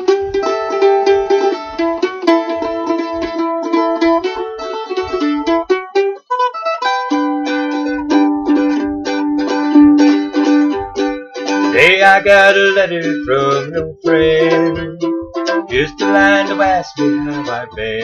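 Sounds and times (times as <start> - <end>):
mandolin playing fast picked notes: 0.0 - 18.0.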